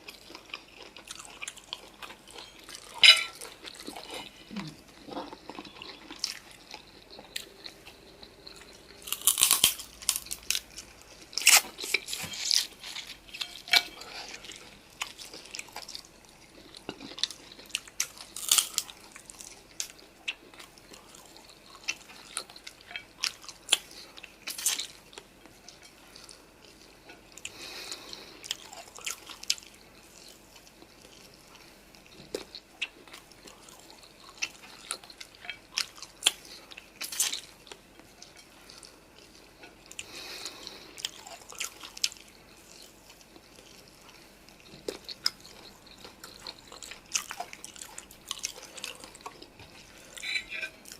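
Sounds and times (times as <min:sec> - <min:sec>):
chewing and mouth sounds: 0:00.0 - 0:50.9.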